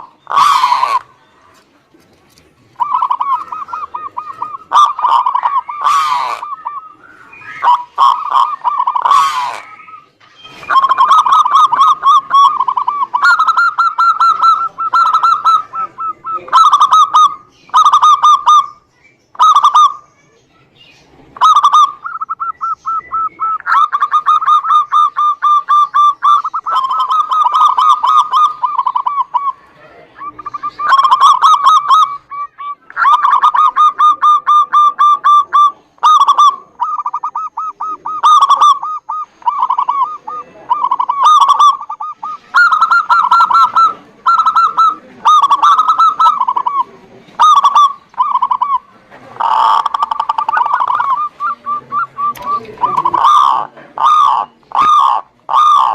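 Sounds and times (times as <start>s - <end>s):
doves cooing: 0.0s - 20.1s, 21.0s - 55.9s.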